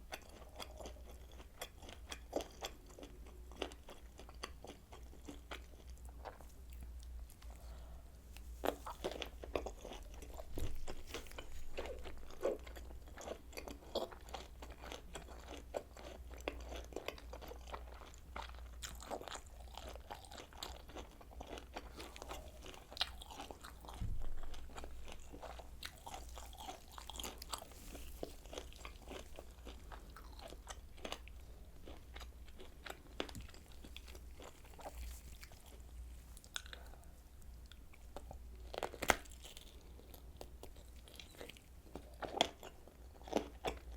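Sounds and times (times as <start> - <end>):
chewing and biting sausage: 0.0 - 7.6, 8.6 - 37.0, 37.6 - 43.9
low steady hum: 0.0 - 43.9.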